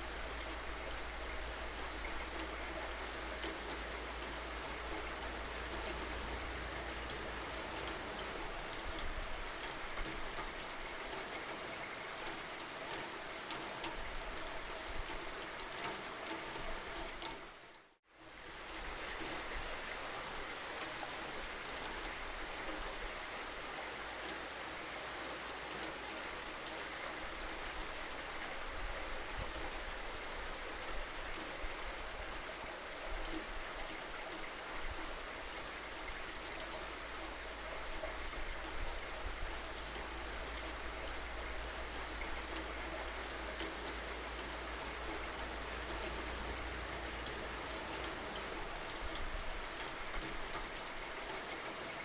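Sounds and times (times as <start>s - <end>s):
steady rainfall: 0.0s - 52.0s.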